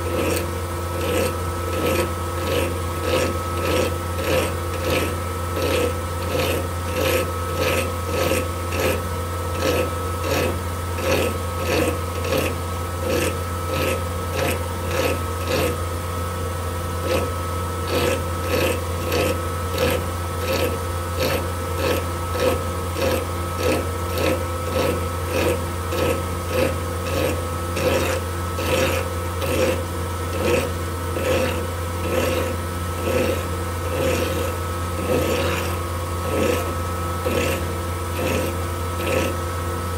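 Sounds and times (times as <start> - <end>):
file rasping on metal: 0.0 - 39.9
lathe running hum: 0.0 - 39.9.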